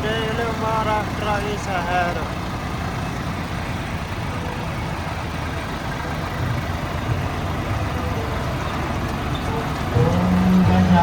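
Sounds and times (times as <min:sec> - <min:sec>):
road noise: 0:00.0 - 0:11.0
tractor engine rumbling: 0:00.0 - 0:11.0.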